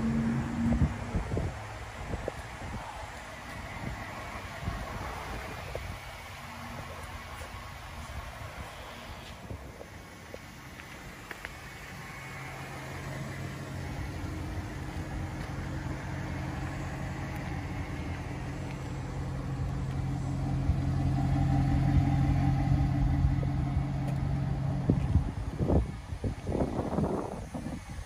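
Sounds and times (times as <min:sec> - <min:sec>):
car engine idling: 0:00.0 - 0:27.6.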